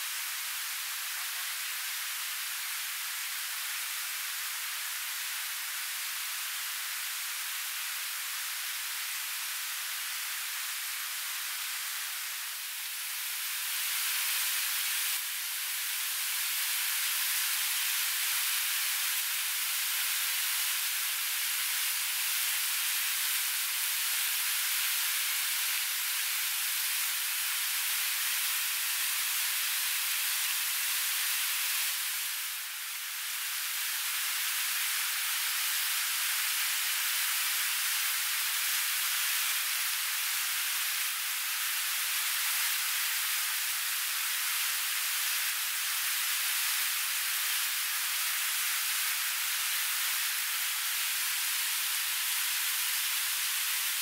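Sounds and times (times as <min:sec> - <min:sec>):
food frying in hot oil: 0:00.0 - 0:54.0.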